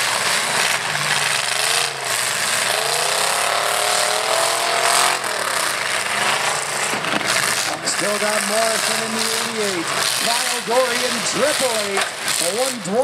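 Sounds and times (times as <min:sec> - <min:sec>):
engine revving: 0:00.0 - 0:13.0
truck engines running hard: 0:00.0 - 0:13.0.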